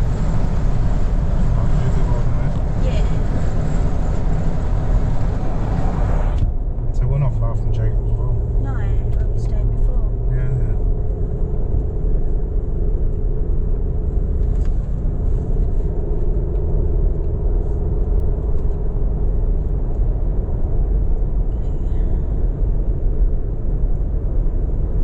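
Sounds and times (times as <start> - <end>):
car road rumble and engine hum: 0.0 - 25.0.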